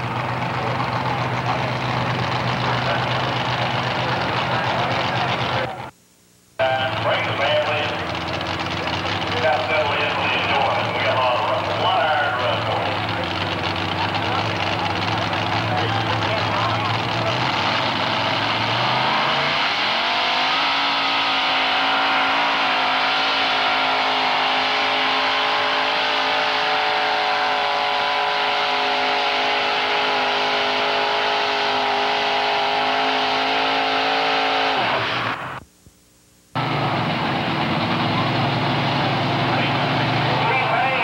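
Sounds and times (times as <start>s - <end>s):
another engine running: 0.0s - 5.9s, 6.6s - 35.7s, 36.6s - 41.0s
truck engine revving high: 0.0s - 5.9s, 6.6s - 35.6s, 36.6s - 41.0s.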